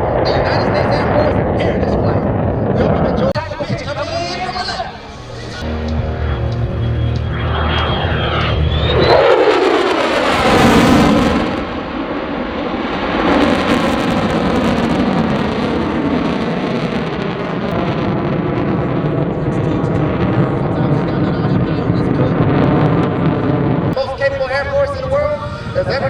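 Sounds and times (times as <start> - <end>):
jet passing low: 0.0 - 26.0.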